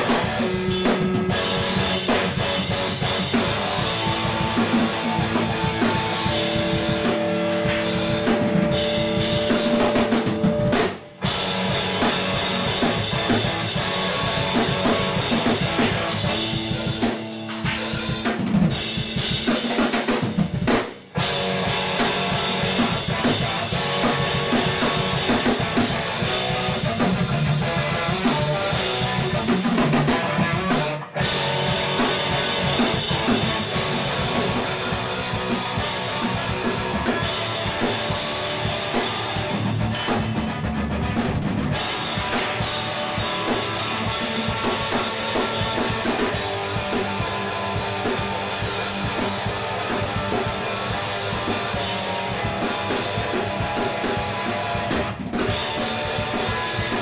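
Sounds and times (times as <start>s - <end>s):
drum kit with cymbals: 0.0s - 57.0s
electric guitar: 0.0s - 57.0s.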